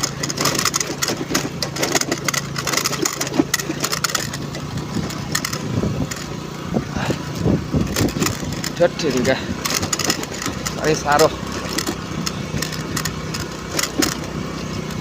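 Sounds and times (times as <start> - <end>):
knocks and rattles: 0.0 - 15.0
small engine running under load: 0.0 - 15.0.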